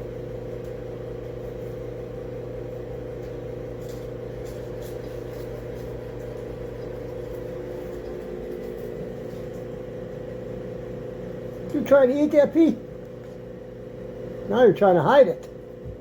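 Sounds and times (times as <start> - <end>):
motor humming with steady tones: 0.0 - 16.0.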